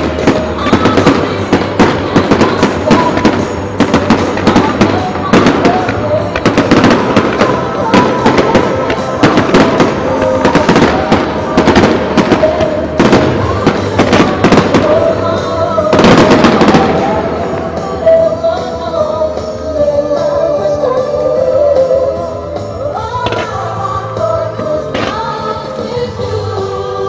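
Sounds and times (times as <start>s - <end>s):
fireworks bursting: 0.0s - 26.4s
music over loudspeakers: 0.0s - 27.0s.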